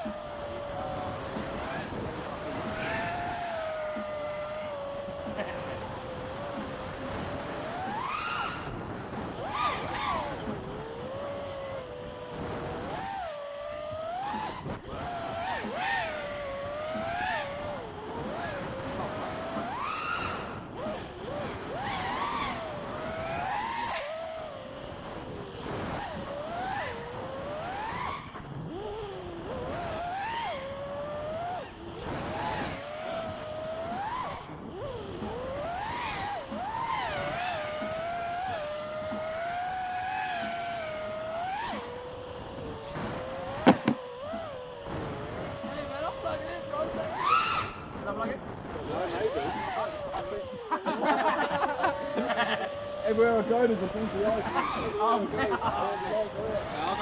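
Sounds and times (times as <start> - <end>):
quadcopter motors whining: 0.0 - 57.0.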